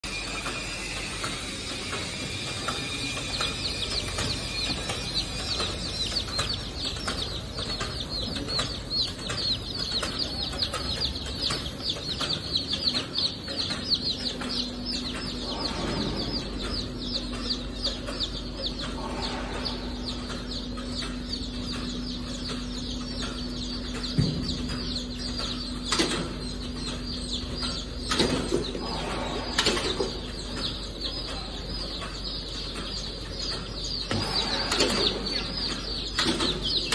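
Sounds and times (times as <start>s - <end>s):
steady hum: 0.0s - 36.9s
chicks peeping: 0.1s - 36.9s.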